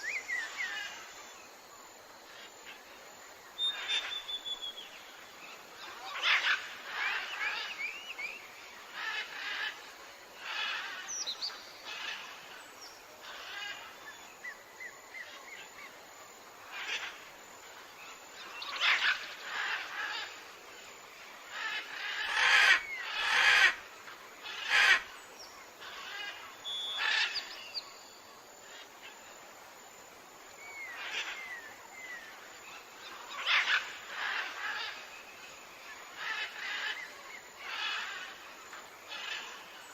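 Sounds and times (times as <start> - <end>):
faint steady hiss: 0.0 - 39.9
wild birds calling: 3.6 - 12.6, 13.2 - 16.0, 16.6 - 27.9, 30.6 - 39.9.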